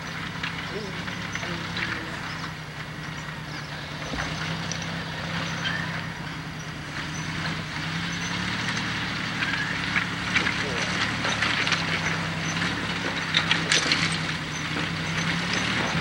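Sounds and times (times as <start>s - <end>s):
stones clicking under tyres: 0.0s - 16.0s
vehicle engine running at low speed: 0.0s - 16.0s.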